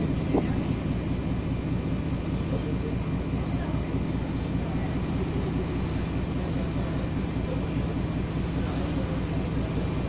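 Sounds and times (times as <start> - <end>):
boat engine throbbing: 0.0 - 10.0
water wash: 0.0 - 10.0.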